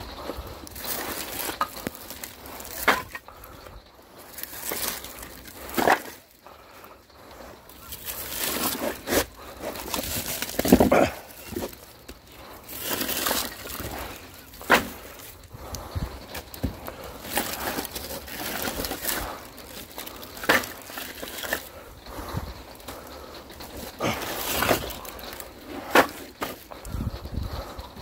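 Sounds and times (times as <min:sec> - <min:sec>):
rustling and scraping: 0:00.0 - 0:28.0.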